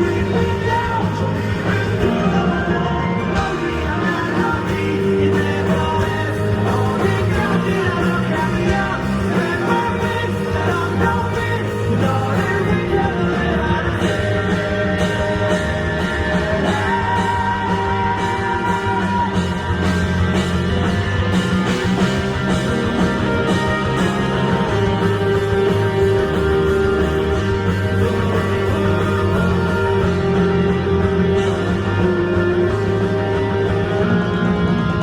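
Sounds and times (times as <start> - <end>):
person singing: 0.0 - 20.3, 22.5 - 35.0
live pop-rock band music: 0.0 - 35.0.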